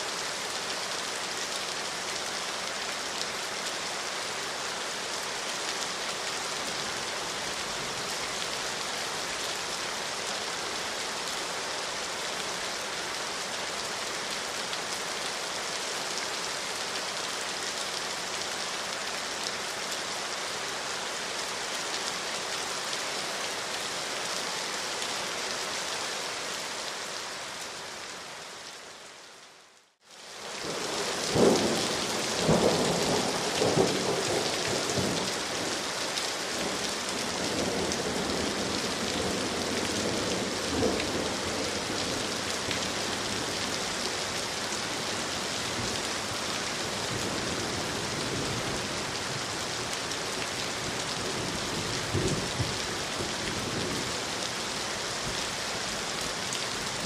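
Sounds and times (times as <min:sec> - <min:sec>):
heavy rainfall: 0:00.0 - 0:57.0.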